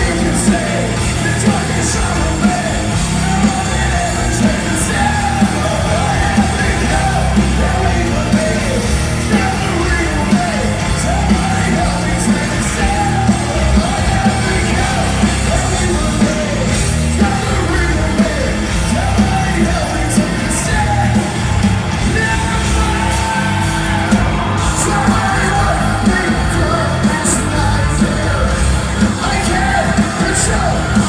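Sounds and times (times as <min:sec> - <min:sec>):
metal band playing live: 0:00.0 - 0:31.0
person singing: 0:00.0 - 0:31.0.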